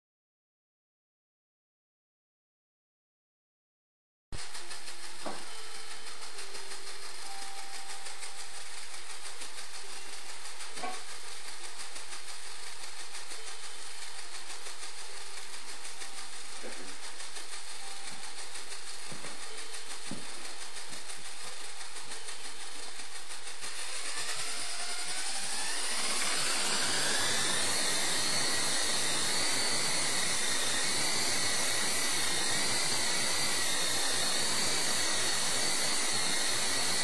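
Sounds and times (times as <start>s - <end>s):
electric rc helicopter whirring: 4.4s - 37.0s.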